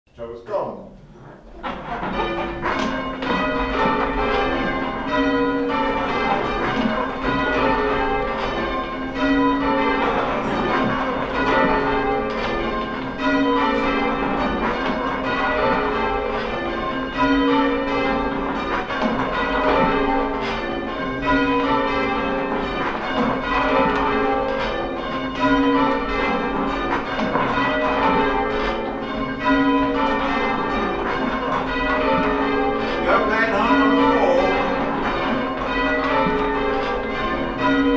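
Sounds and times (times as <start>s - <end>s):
church tower bells ringing: 1.3s - 37.9s.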